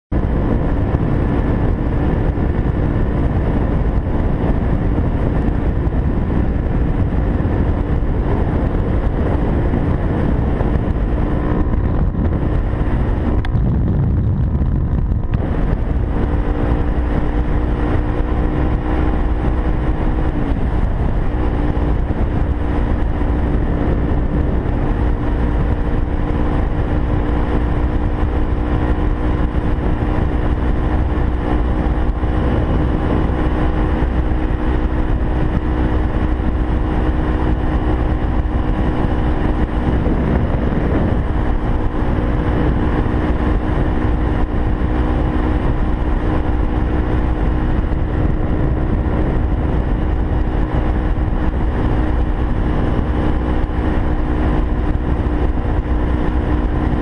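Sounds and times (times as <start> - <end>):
wind and road rush: 0.0 - 57.0
motorcycle engine cruising: 0.1 - 57.0.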